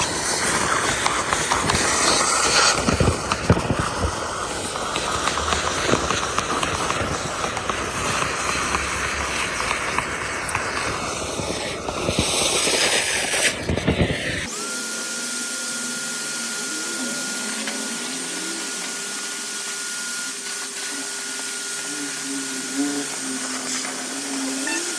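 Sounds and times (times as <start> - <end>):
gutter vacuum running: 0.0 - 24.9
high motor whine: 0.0 - 24.9.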